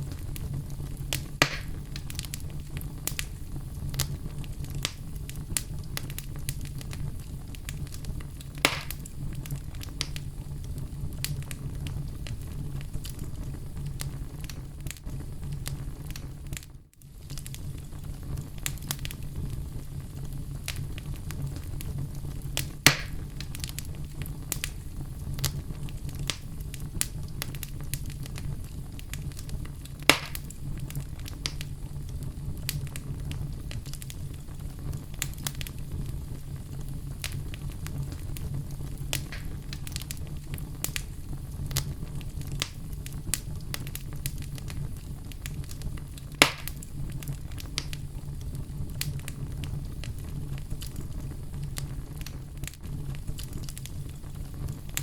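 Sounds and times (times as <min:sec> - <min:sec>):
fire crackling and popping: 0:00.0 - 0:55.0
fire flames rumbling: 0:00.0 - 0:55.0.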